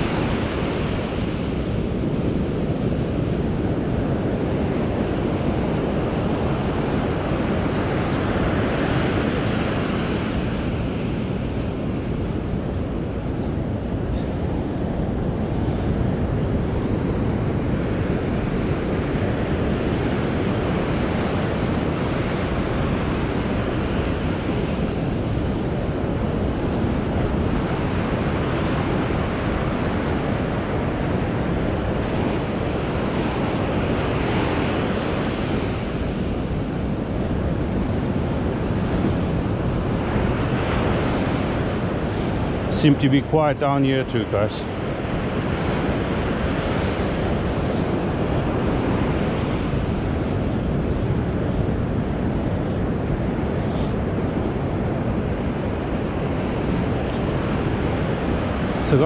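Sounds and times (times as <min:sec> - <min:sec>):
surf breaking on beach: 0:00.0 - 0:59.0
wind buffeting microphone: 0:00.0 - 0:59.0.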